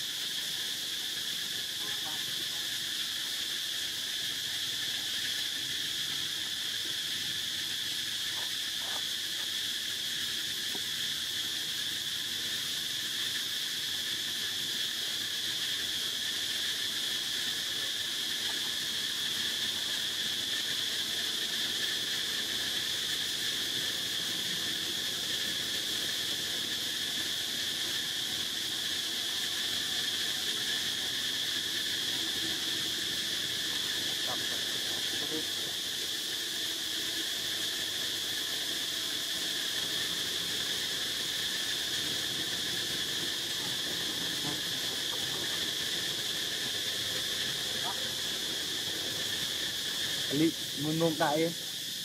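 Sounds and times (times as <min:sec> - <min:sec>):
insect chorus drone: 0:00.0 - 0:52.0.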